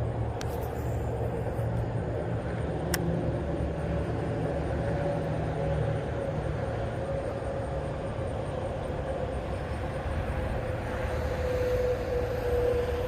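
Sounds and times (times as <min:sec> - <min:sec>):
mechanical drone: 0:01.1 - 0:13.0.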